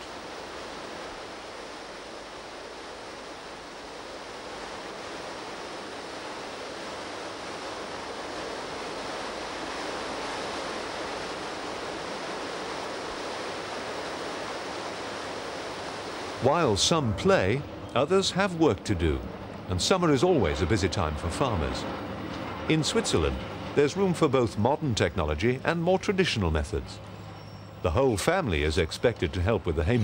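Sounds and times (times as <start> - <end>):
river rushing over rocks: 0.0 - 24.6.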